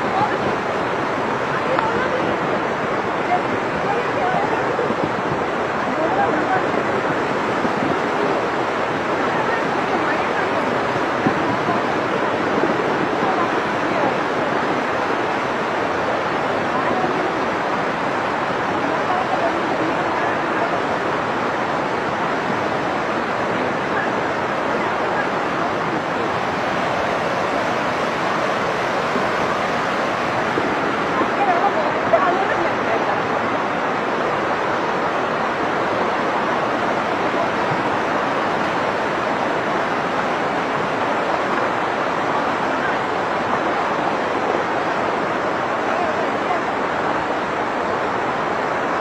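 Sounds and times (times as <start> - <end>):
flooded river rushing: 0.0 - 49.0.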